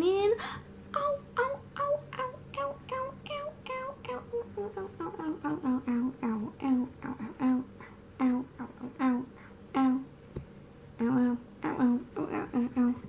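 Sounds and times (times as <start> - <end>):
woman humming a tune: 0.0 - 10.1, 11.0 - 13.0.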